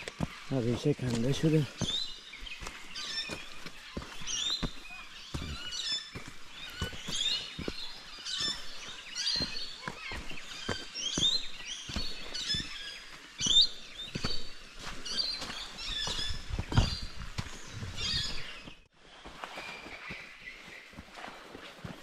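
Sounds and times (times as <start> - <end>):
birds chirping and singing: 0.0 - 21.4
footsteps on dirt trail: 0.0 - 22.0.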